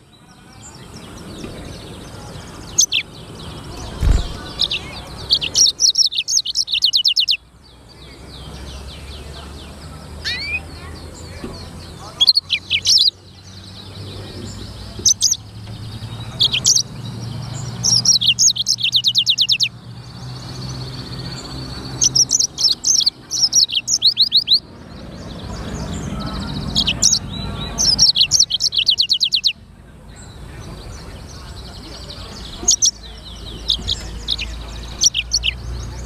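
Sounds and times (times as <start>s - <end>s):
canary singing: 0.0s - 36.0s.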